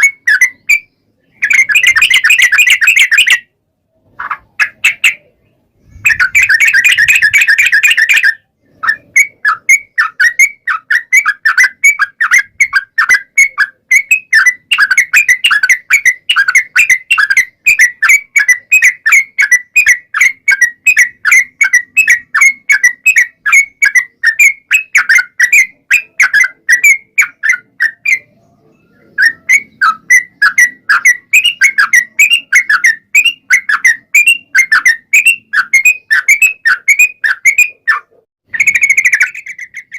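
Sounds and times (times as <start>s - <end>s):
bird singing rapid song: 0.0s - 39.9s.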